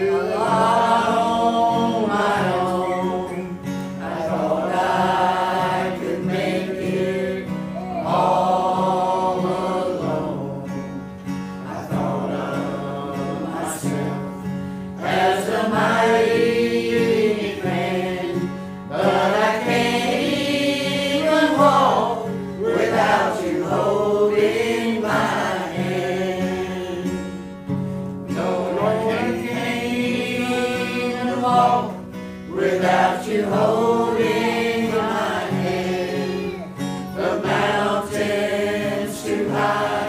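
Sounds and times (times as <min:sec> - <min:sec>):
acoustic guitar: 0:00.0 - 0:40.0
choir singing gospel song: 0:00.0 - 0:40.0.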